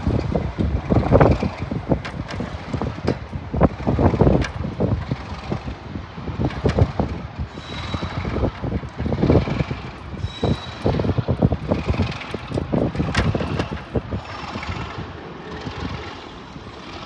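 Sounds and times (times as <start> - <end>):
train rumble and clatter: 0.0 - 17.0
wind buffeting microphone: 0.0 - 17.0.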